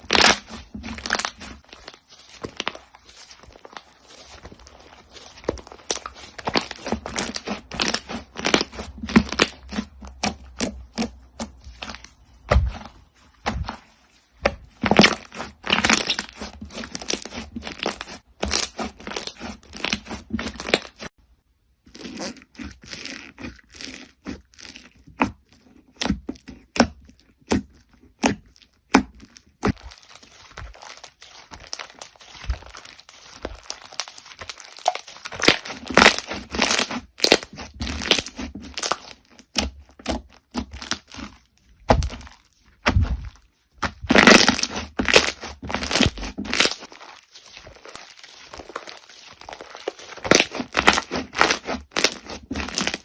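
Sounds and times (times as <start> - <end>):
crunchy slime crackling: 0.0 - 21.2, 21.8 - 53.0.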